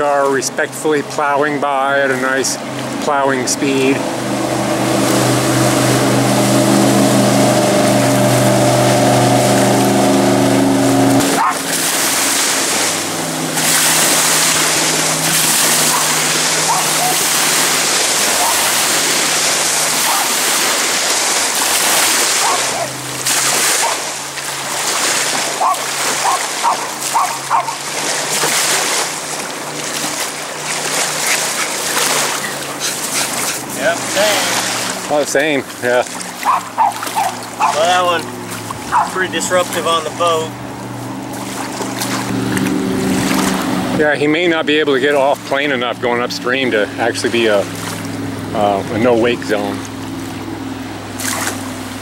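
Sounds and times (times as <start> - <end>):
boat wake washing onto beach: 0.0 - 52.0
jet boat engine drone: 0.0 - 52.0
waves splashing onto shore: 0.0 - 52.0.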